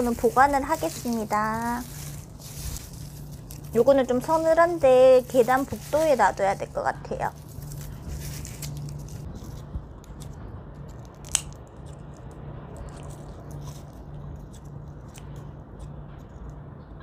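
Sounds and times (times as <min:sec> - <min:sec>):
scissors snipping: 0:00.0 - 0:16.0
low pulsing hum: 0:00.0 - 0:17.0.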